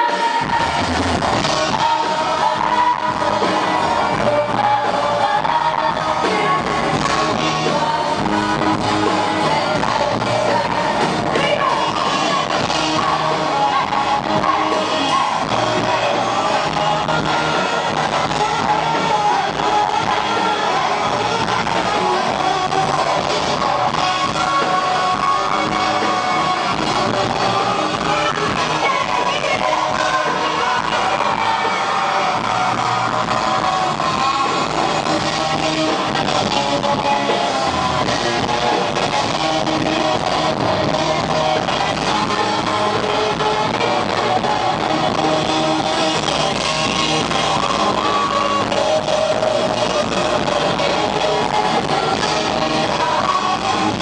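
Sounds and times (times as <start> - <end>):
drums: 0.0 - 54.0
electric guitar: 0.0 - 54.0
person singing: 0.0 - 54.0.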